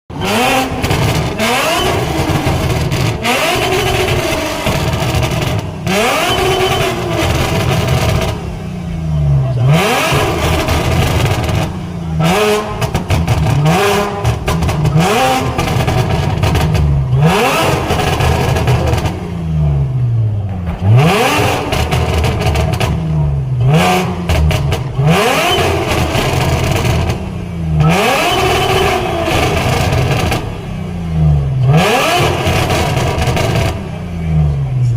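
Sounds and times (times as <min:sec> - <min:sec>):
car engine revving: 0:00.1 - 0:34.9
exhaust crackles: 0:00.1 - 0:34.9.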